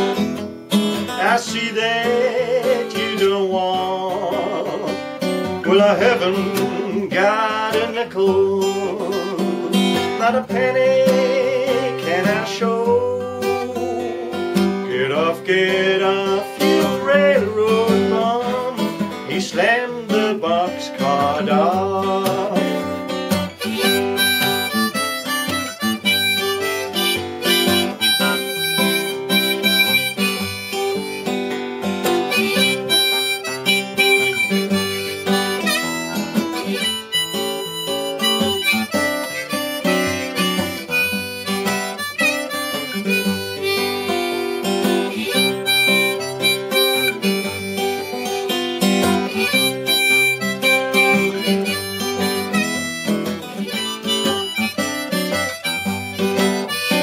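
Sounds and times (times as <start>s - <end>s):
harmonica playing: 0.0s - 19.6s, 21.0s - 57.0s
strummed acoustic guitar: 0.0s - 57.0s.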